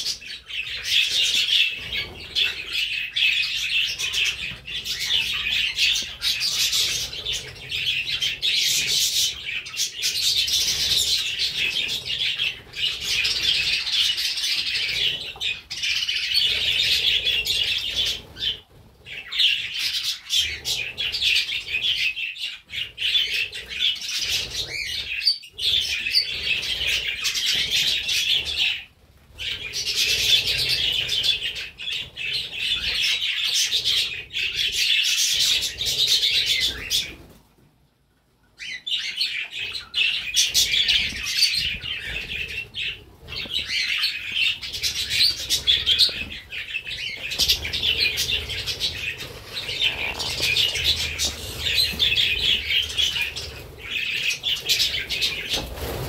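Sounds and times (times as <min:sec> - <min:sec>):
budgerigars chattering: 0:00.0 - 0:28.8, 0:38.6 - 0:56.0.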